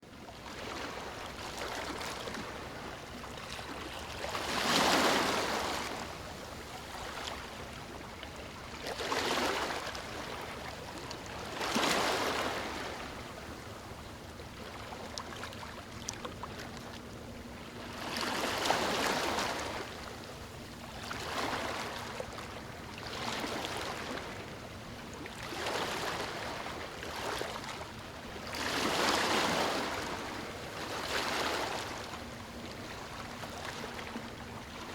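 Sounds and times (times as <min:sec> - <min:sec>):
ocean waves breaking on shore: 0:00.2 - 0:34.9.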